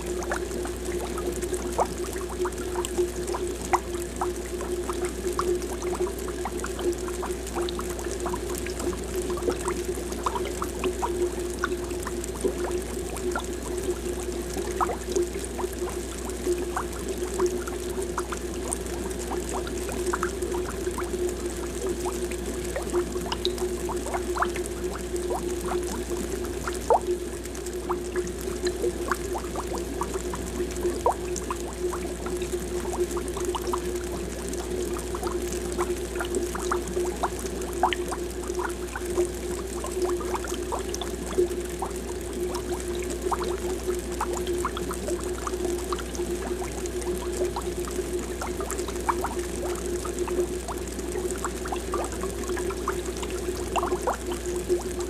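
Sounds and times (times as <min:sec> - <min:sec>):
air bubbles popping in water: 0:00.0 - 0:55.0.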